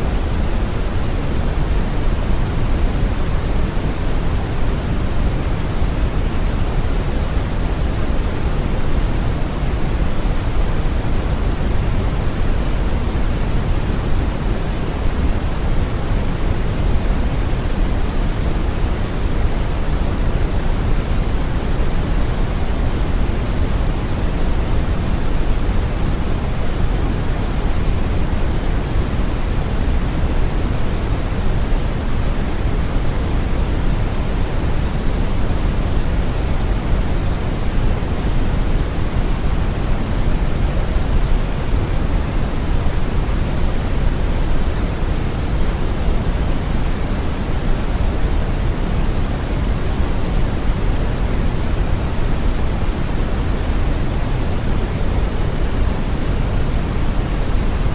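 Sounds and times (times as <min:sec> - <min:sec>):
brown noise rushing hiss: 0:00.0 - 0:57.9.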